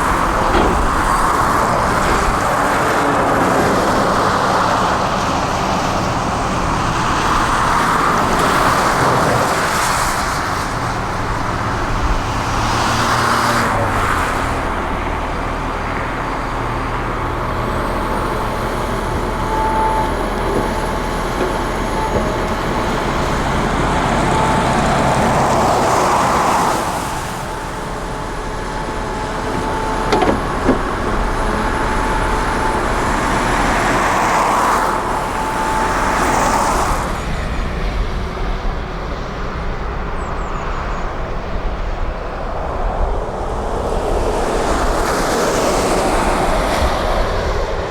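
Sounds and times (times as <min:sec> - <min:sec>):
hydraulic whine: 0:00.0 - 0:47.5
excavator diesel engine: 0:00.0 - 0:47.9.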